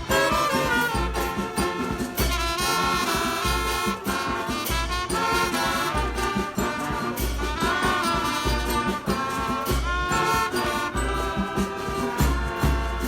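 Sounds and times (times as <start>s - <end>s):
music with bass beat and brass: 0.0s - 13.0s.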